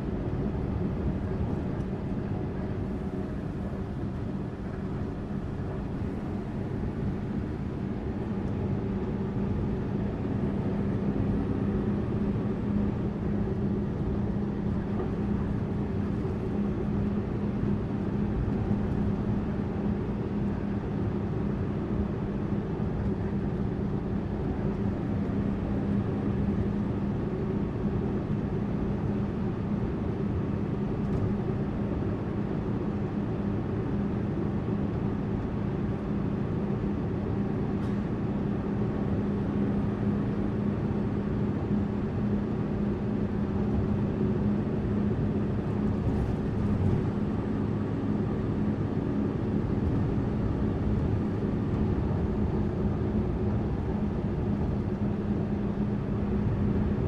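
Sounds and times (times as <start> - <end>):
bus engine drone: 0.0 - 57.0
road and tyre noise: 0.0 - 57.0.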